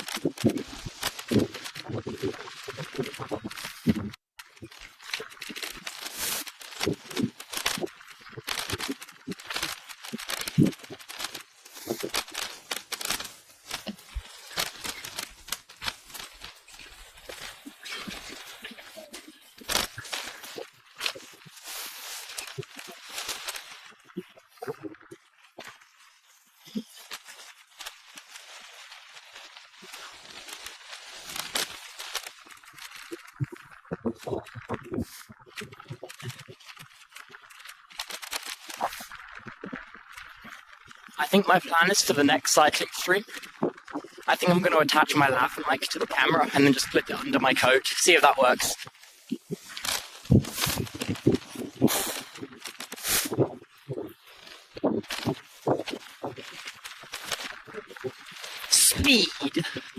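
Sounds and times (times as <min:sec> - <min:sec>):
clicks and crackles: 0:00.0 - 0:59.9.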